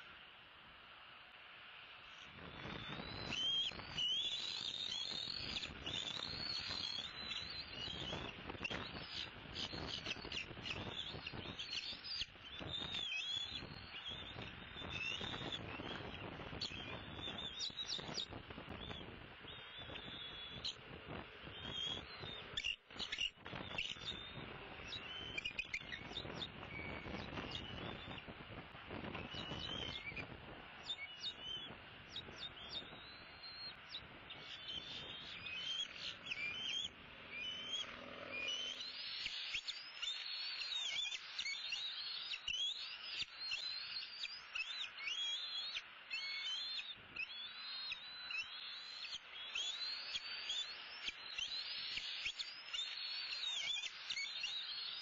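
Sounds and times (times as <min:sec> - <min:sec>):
birds chirping: 0:02.0 - 0:55.0.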